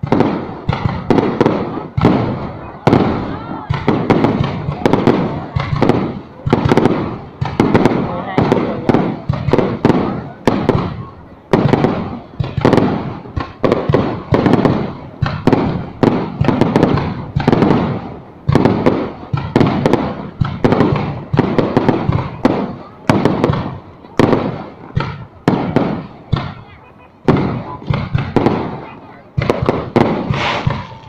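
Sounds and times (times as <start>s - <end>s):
fireworks booms with rumbling tails: 0.0s - 31.0s.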